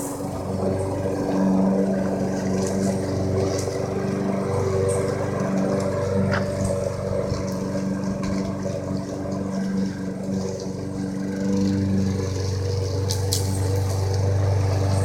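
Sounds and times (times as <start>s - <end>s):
lawnmower engine running: 0.0s - 15.0s.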